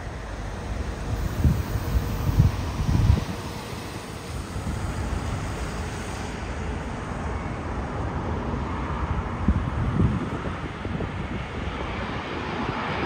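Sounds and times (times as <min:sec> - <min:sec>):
jet engine rumble: 0:00.0 - 0:13.0
wind gusts on microphone: 0:00.0 - 0:13.0.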